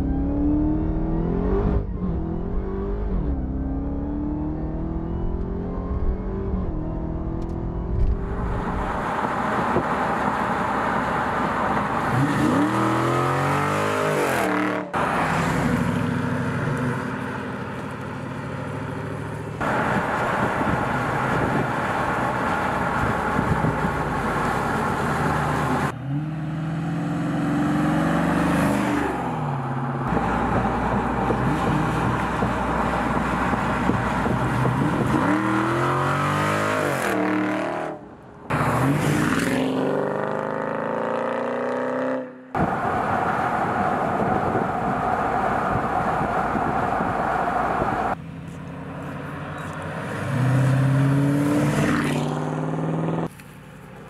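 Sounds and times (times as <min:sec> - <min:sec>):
car engine accelerating hard: 0:00.0 - 0:17.1, 0:19.6 - 0:48.2, 0:49.3 - 0:53.3.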